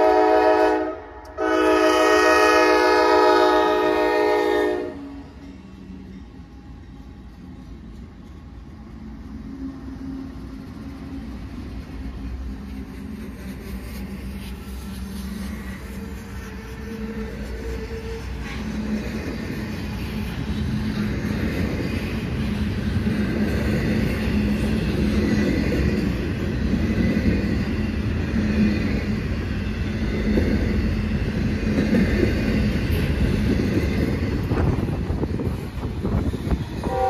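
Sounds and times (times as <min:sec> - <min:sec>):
diesel locomotive engines droning: 0:00.0 - 0:37.0.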